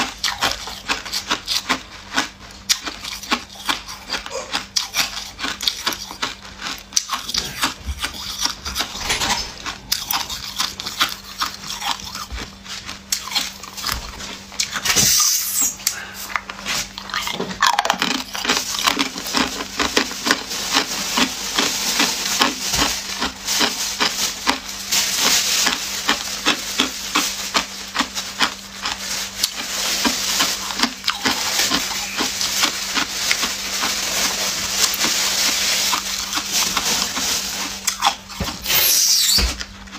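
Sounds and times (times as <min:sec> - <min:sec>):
ice cubes crunching: 0:00.0 - 0:14.8, 0:16.4 - 0:38.9.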